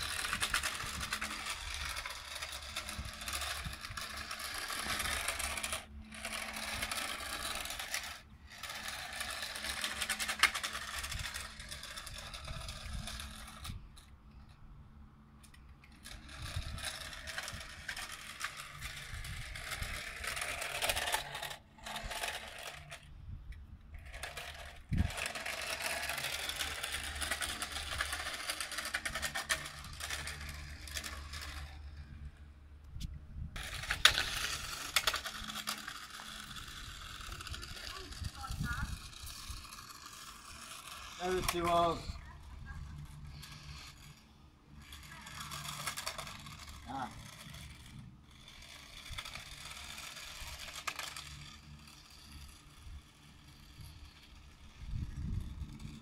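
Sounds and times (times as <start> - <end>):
toy car motor whirring: 0.0 - 56.0.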